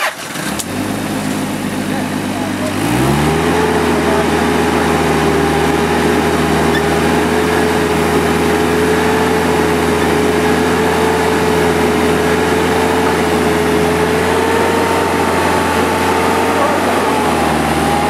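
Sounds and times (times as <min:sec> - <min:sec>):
truck engine revving high: 0:00.4 - 0:18.0.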